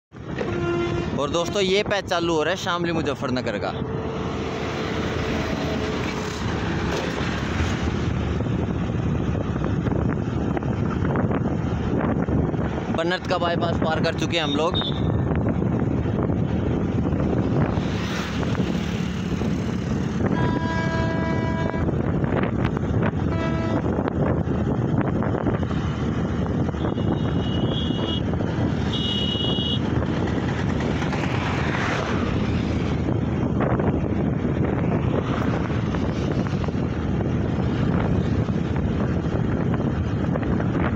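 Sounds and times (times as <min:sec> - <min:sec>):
vehicle road noise: 0:00.0 - 0:40.9
wind rushing over microphone: 0:00.1 - 0:40.9.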